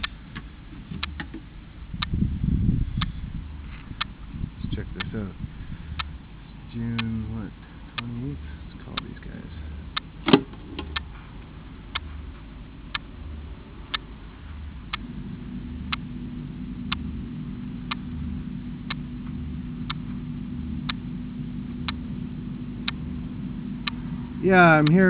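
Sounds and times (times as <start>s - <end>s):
sharp ticks: 0.0s - 1.4s, 2.9s - 3.2s, 3.8s - 25.0s
low hum: 0.0s - 25.0s
steady low tone: 0.0s - 25.0s.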